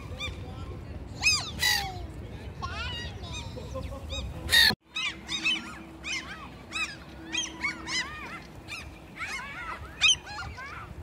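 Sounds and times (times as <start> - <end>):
flock of gulls calling: 1.2 - 2.1, 2.7 - 11.0.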